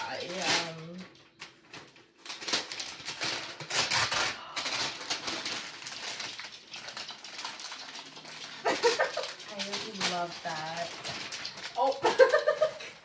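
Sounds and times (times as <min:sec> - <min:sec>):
wrapping paper tearing: 0:00.0 - 0:13.0.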